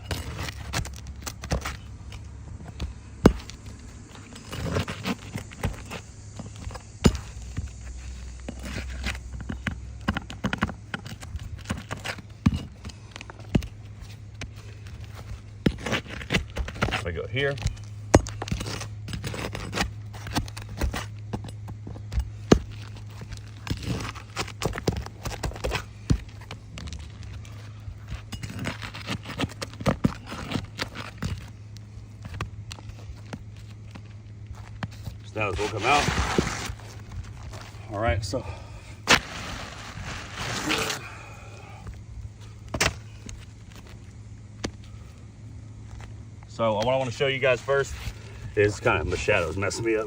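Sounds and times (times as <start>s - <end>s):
scraping and clicking on shingle: 0.0s - 38.0s, 39.0s - 50.0s
steady low hum: 0.0s - 50.0s.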